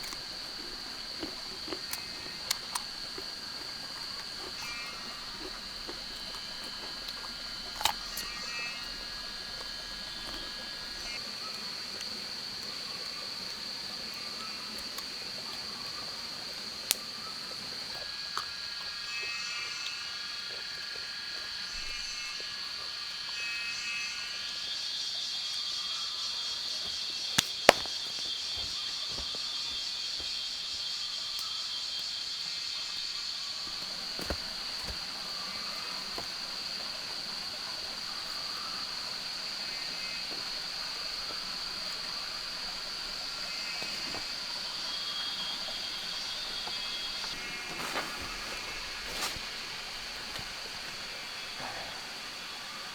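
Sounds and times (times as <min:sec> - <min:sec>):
high-pitched insect drone: 0:00.0 - 0:52.9.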